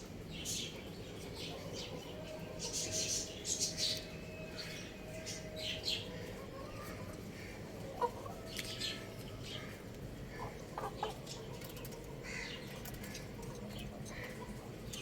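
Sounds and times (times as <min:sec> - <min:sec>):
young rooster chirping and clucking: 0:00.8 - 0:14.6.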